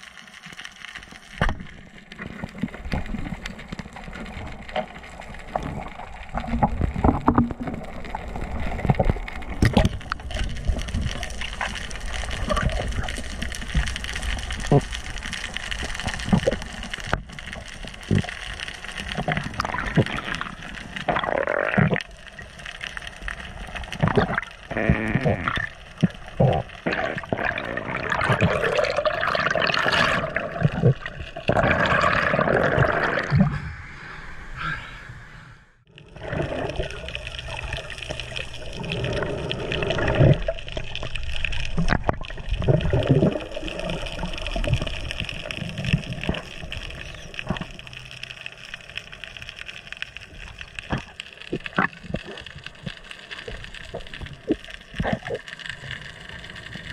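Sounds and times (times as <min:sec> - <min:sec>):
bubbling: 0:00.0 - 0:34.0, 0:35.9 - 0:56.9
underwater water noise: 0:00.0 - 0:56.9.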